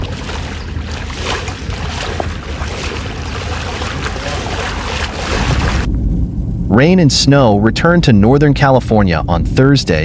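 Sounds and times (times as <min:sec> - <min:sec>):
rush of wind and water: 0:00.0 - 0:10.0
wind buffeting microphone: 0:00.0 - 0:10.0.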